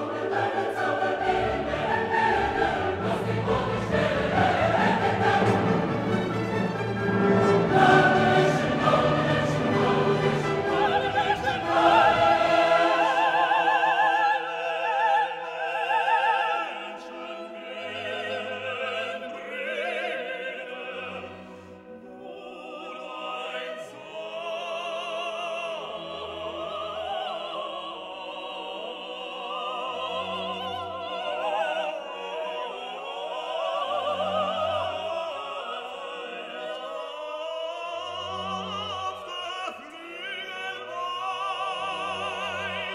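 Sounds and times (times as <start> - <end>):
orchestral accompaniment: 0.0 - 36.8
operatic singing voice: 0.0 - 42.9.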